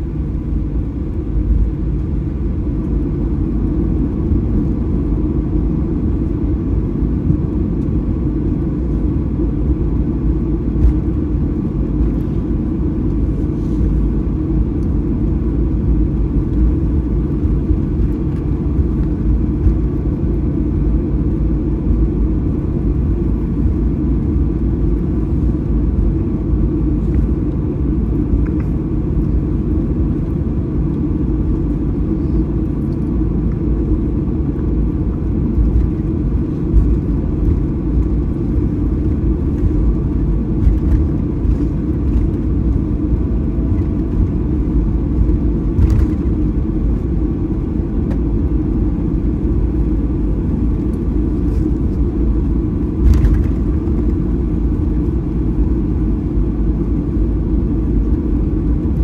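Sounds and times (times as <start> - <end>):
faint steady hum: 0.0 - 59.0
jet engines rumbling at idle: 0.0 - 59.0.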